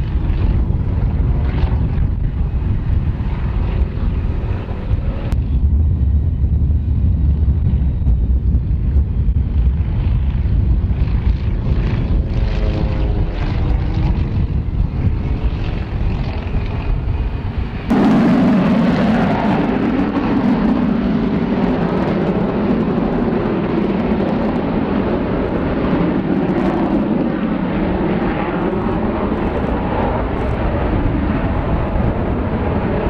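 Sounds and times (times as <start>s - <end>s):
propeller aircraft engine drone: 0.0s - 33.0s.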